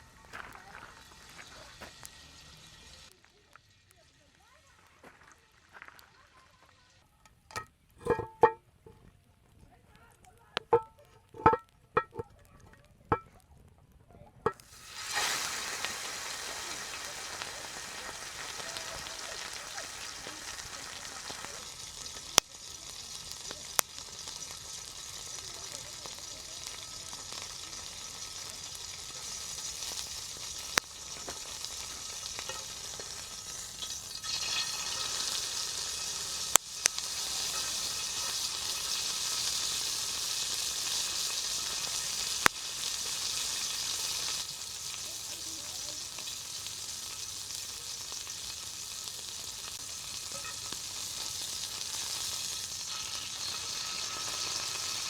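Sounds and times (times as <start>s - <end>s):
food sizzling in a hot pan: 0.0s - 7.1s, 14.4s - 55.0s.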